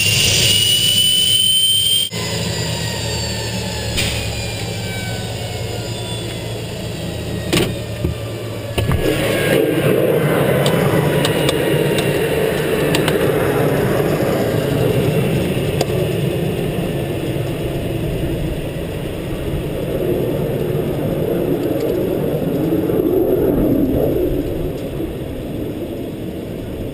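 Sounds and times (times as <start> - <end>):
jet engine running: 0.0 - 26.9.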